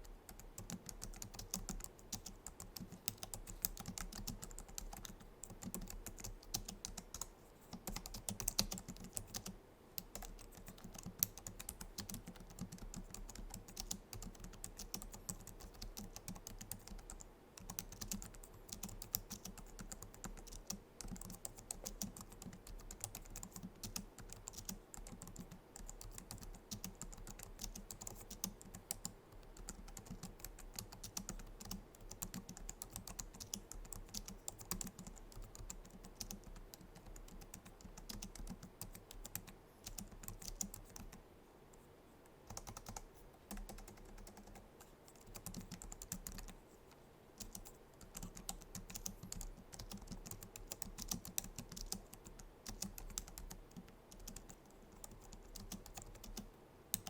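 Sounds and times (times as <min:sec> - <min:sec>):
fast keyboard typing clicks: 0:00.0 - 0:41.2, 0:42.5 - 0:46.6, 0:47.4 - 0:57.0.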